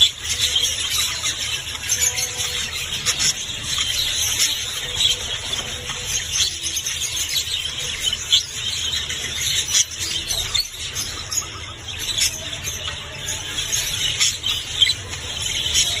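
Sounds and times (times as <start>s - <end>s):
songbirds chirping and twittering: 0.0s - 16.0s.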